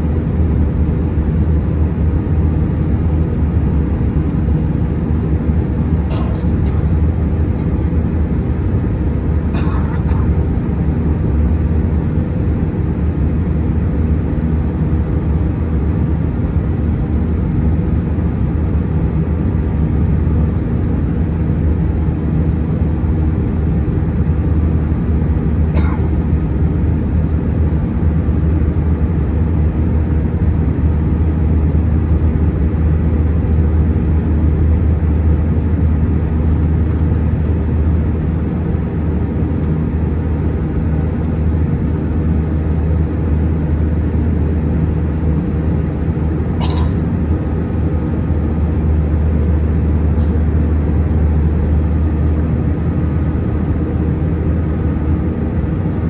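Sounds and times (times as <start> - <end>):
jet engine cabin drone: 0.0 - 56.0.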